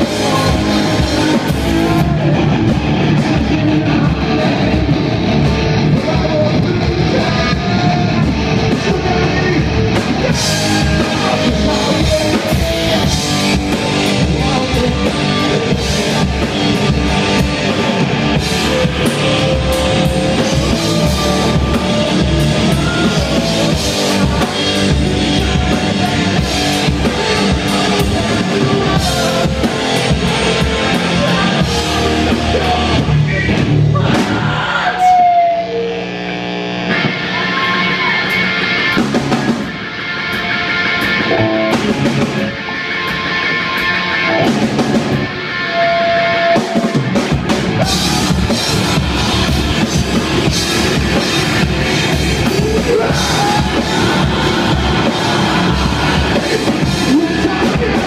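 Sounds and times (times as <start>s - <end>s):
drum kit: 0.0s - 58.0s
electric bass: 0.0s - 58.0s
electric guitars: 0.0s - 58.0s.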